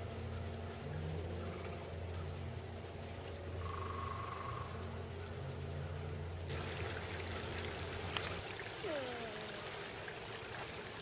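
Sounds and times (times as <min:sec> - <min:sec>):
low hum: 0:00.0 - 0:09.6
stream trickling: 0:00.0 - 0:11.0.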